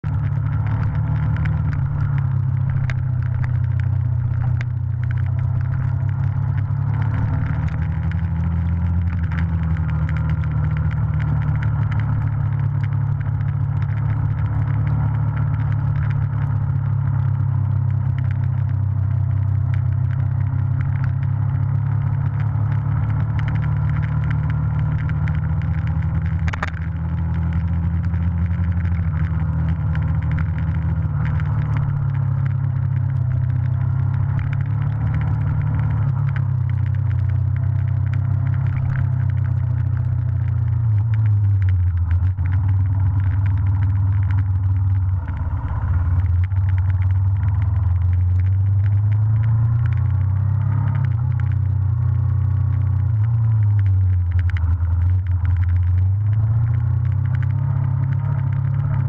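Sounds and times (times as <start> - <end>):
motorcycle engine running: 0.0 - 59.0
small rattles: 0.0 - 59.0.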